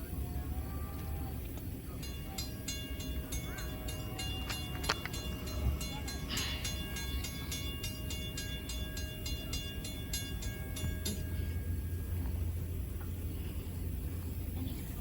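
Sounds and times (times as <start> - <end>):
rhythmic clicking of train wheels: 0.0 - 15.0
train low rumble: 0.0 - 15.0.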